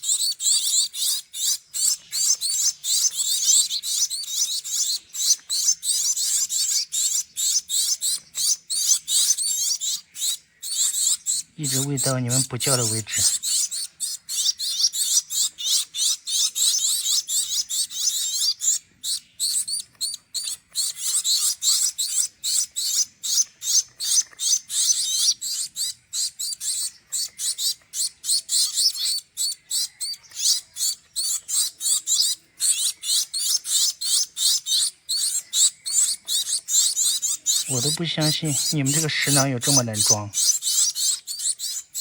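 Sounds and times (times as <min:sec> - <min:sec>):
fledgling birds chirping: 0:00.0 - 0:42.0.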